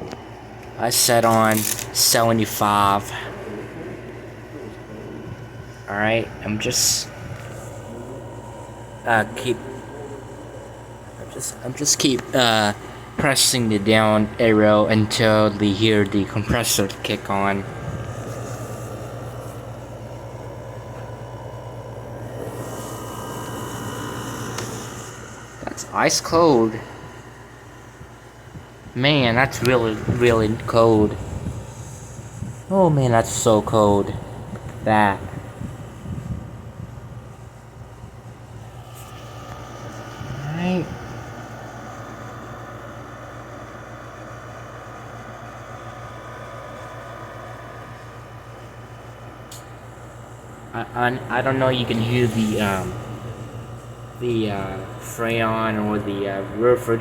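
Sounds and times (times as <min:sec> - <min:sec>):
air conditioner compressor hum: 0:00.0 - 0:57.0
air conditioner fan rushing: 0:00.0 - 0:57.0.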